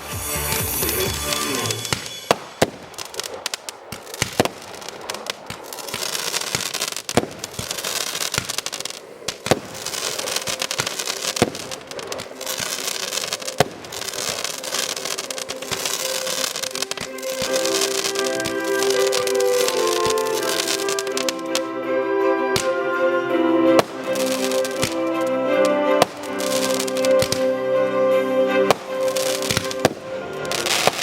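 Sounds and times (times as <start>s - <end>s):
dense firework crackle: 0.0s - 21.7s, 23.8s - 27.6s, 28.6s - 31.0s
firework shells bursting: 0.6s - 21.7s, 23.8s - 27.6s, 28.5s - 31.0s.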